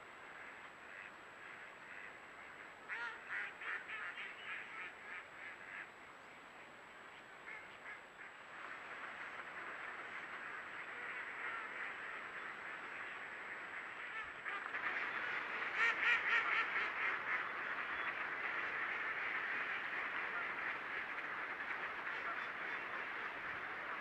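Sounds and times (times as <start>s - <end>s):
flock of ducks quacking: 0.0s - 6.8s, 7.4s - 24.0s.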